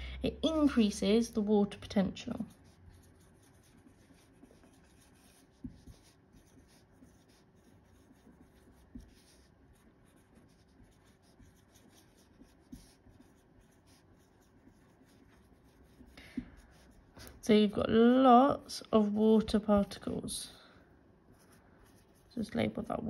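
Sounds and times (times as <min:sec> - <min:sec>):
marker scratching on paper: 0:00.5 - 0:17.6, 0:21.3 - 0:23.0.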